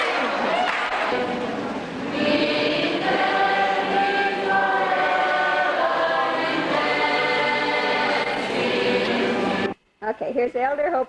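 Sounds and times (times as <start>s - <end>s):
group singing in harmony: 0.0s - 9.8s.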